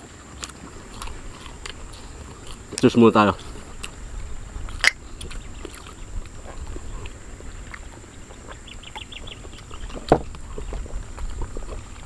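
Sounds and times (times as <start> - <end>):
wind rumbling on microphone: 0.0 - 12.0
bird chirping: 0.6 - 11.0.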